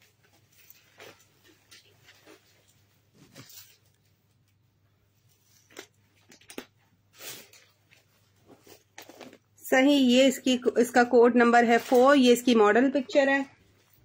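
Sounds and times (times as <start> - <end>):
fabric and plastic crinkling: 0.0 - 9.6, 11.4 - 14.0.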